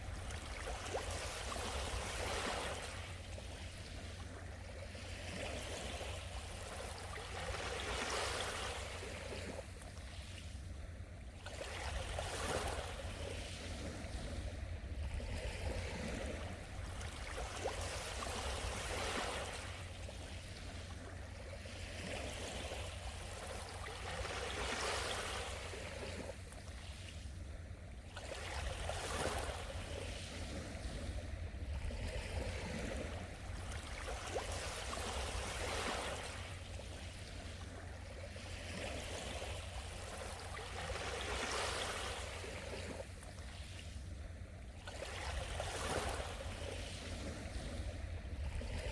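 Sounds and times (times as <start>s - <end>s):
small waves washing onto shore: 0.0s - 48.9s.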